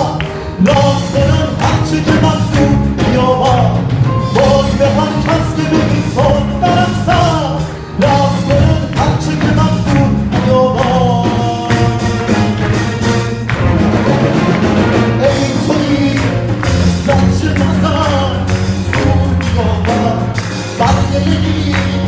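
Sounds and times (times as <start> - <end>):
man singing: 0.0 - 13.2, 15.1 - 22.0
live band music: 0.0 - 22.0.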